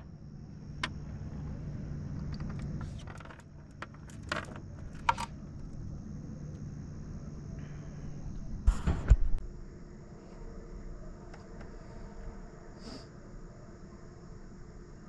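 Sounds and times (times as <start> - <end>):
high insect trill: 0.0 - 15.0
steady low hum: 0.0 - 15.0.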